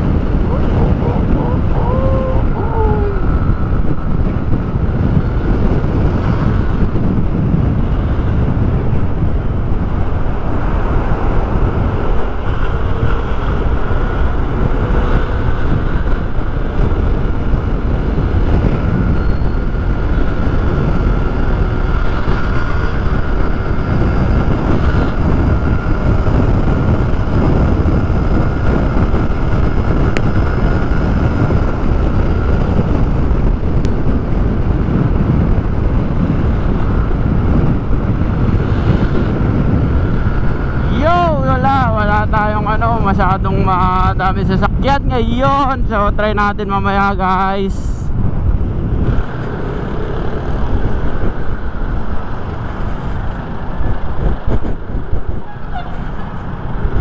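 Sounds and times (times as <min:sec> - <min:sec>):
wind rush over microphone: 0:00.0 - 0:57.0.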